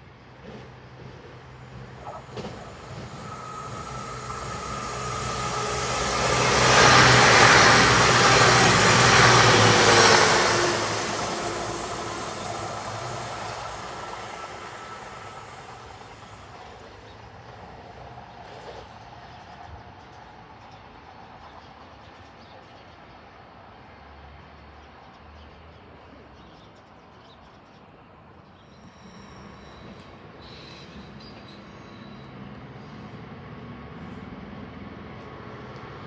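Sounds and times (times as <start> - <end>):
diesel train passing at speed: 0.0 - 36.0.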